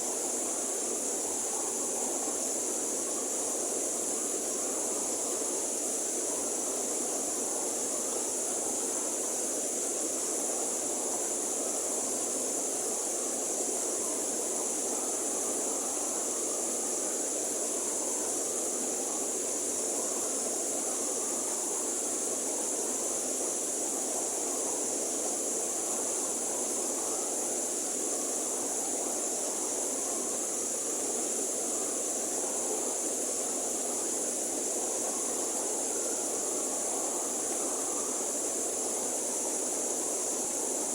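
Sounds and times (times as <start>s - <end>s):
constant high hiss: 0.0s - 40.9s.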